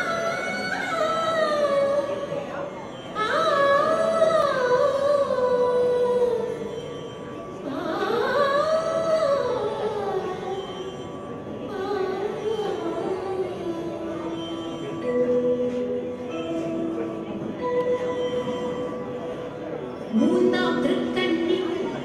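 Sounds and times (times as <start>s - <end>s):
high voice singing gliding notes: 0.0s - 22.0s.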